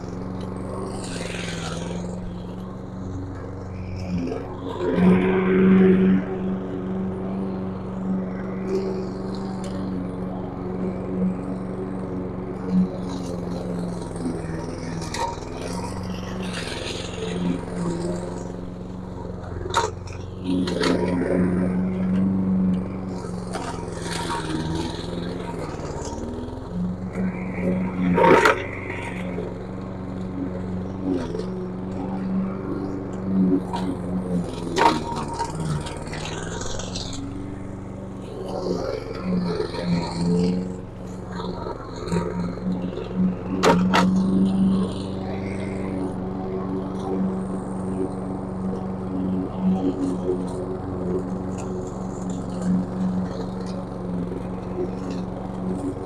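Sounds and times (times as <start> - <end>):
blade cutting through weeds: 0.0 - 56.0
lawn mower engine running: 0.0 - 56.0.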